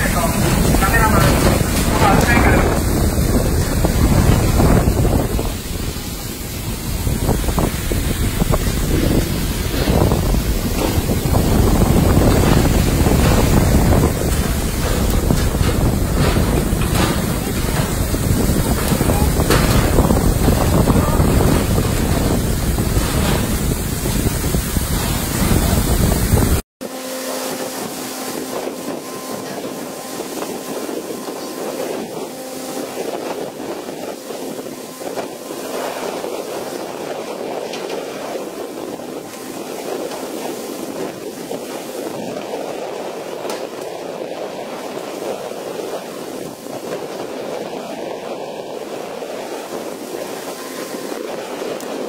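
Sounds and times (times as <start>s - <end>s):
rushing sea water and spray: 0.0s - 52.0s
wind buffeting microphone: 0.0s - 52.0s.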